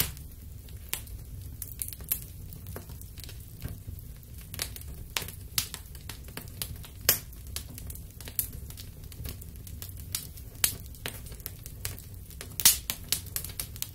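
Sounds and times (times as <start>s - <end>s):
fire crackling and popping: 0.0s - 13.9s.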